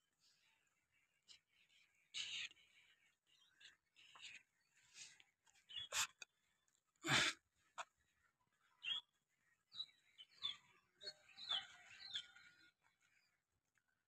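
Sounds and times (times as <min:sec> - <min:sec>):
birds chirping: 0:00.1 - 0:13.8.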